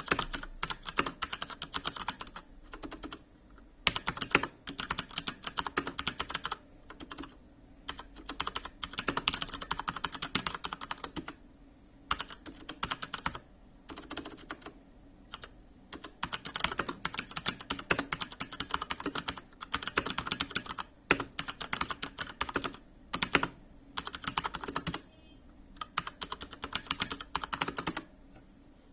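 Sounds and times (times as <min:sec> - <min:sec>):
mechanical keyboard typing: 0:00.0 - 0:03.2, 0:03.8 - 0:11.4, 0:12.1 - 0:25.0, 0:25.8 - 0:28.1.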